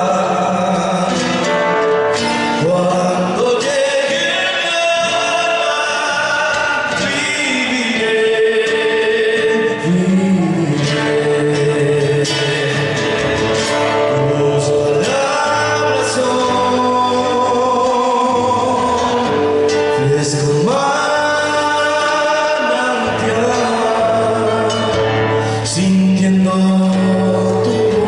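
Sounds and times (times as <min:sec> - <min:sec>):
folk song singing with instruments: 0:00.0 - 0:28.0.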